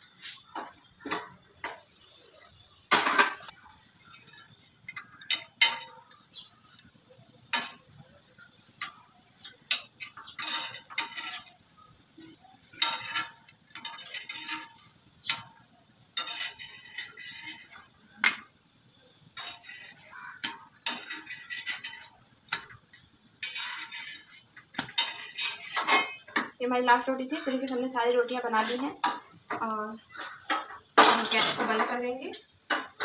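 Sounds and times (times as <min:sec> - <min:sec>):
utensils clattering: 0:00.0 - 0:18.5, 0:19.2 - 0:33.0
metal spatula scraping a griddle: 0:00.0 - 0:33.0.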